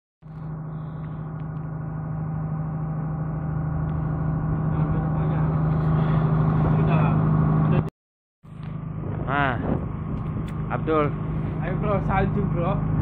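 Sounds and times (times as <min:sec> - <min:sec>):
ship machinery humming: 0:00.2 - 0:07.9, 0:08.5 - 0:13.0.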